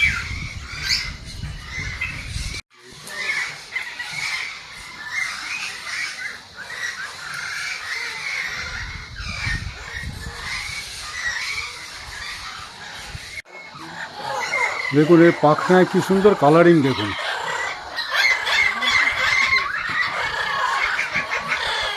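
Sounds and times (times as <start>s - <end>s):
parrots calling: 0.0s - 21.9s.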